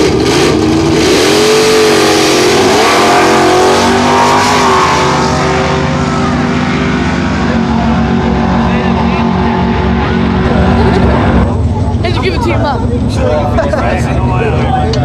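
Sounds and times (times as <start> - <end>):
drag racing car engine: 0.0 - 15.0.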